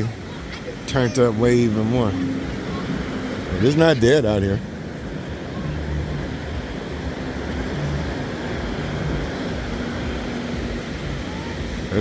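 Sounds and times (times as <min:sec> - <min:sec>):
distant party music bass: 0:00.0 - 0:12.0
surf: 0:00.0 - 0:12.0
wind: 0:00.0 - 0:12.0.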